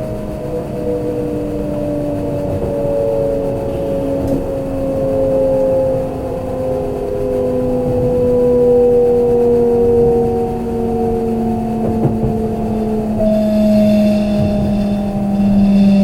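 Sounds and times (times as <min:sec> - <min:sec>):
train motors whining: 0:00.0 - 0:16.0
train wheels rumbling on track: 0:00.0 - 0:16.0.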